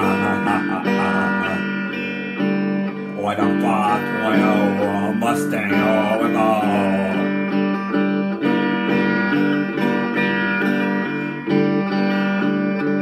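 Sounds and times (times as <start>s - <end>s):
guitar playing chords: 0.0s - 13.0s.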